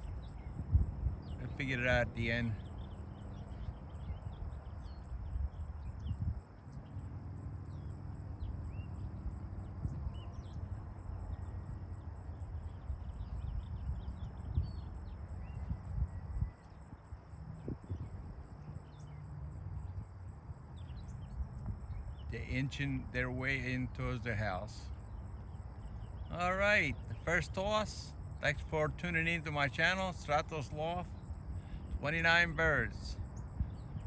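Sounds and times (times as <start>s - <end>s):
crickets chirping trill: 0.0s - 34.0s.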